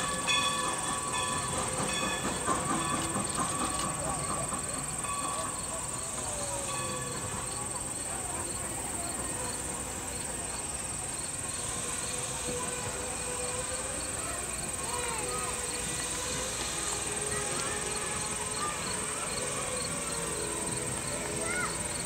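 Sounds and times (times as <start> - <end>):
field insects trilling: 1.5 - 22.0.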